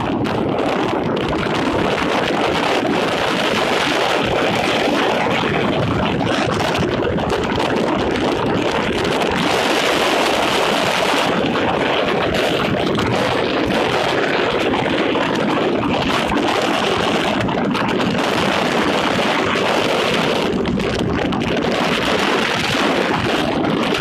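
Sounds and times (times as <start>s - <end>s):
car road noise: 0.0s - 24.0s
wind buffeting microphone: 0.0s - 24.0s.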